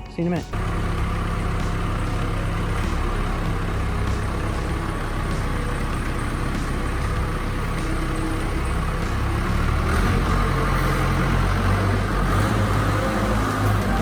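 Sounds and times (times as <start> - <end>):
heavy vehicle engine running: 0.5 - 14.0.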